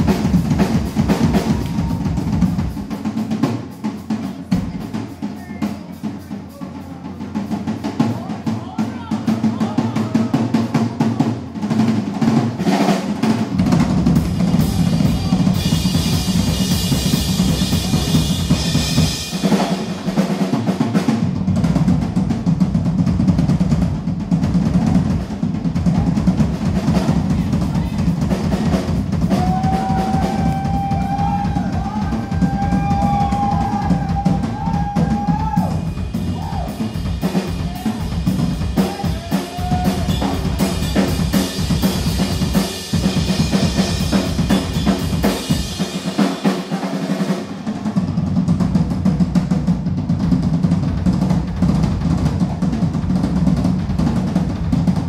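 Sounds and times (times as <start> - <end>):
drum kit solo: 0.0 - 55.0.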